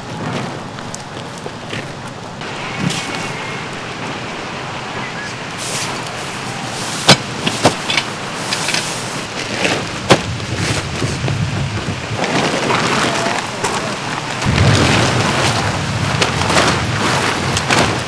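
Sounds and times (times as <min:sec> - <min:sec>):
tent fabric flapping: 0:00.0 - 0:18.0
tent fabric rustling: 0:00.0 - 0:18.0.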